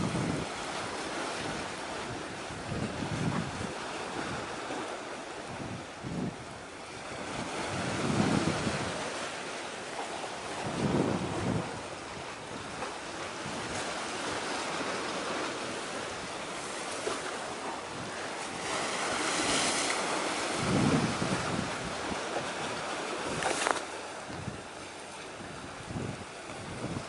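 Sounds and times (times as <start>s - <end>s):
sea waves washing: 0.0s - 27.0s
wind buffeting microphone: 0.0s - 27.0s.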